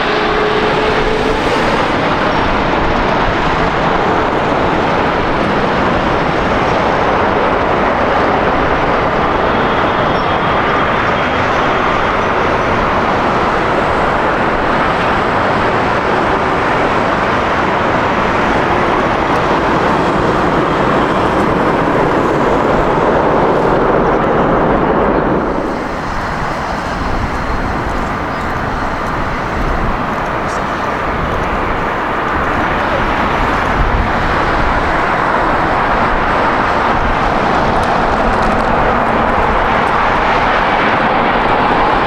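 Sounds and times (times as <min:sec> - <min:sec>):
jet engine of airliner passing: 0:00.0 - 0:42.0.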